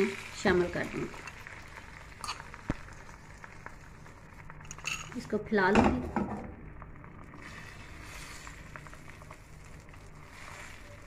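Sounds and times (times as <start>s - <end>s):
egg sizzling in oil: 0.0s - 5.6s, 6.7s - 11.0s.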